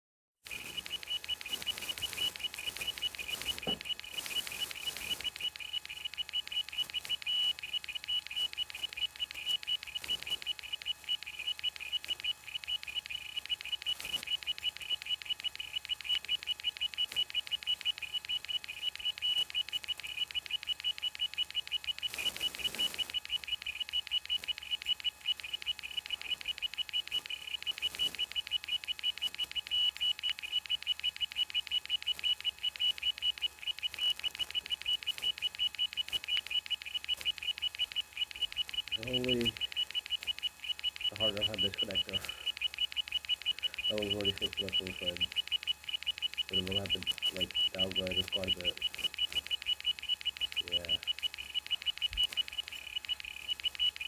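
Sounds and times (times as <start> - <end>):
hard drive high-pitched beeping: 0.5 - 54.0.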